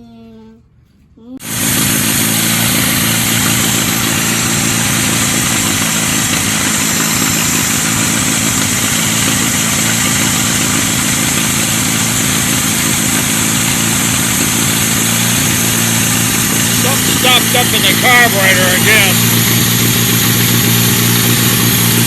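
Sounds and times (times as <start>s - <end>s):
gasoline engine idling: 1.4s - 22.0s.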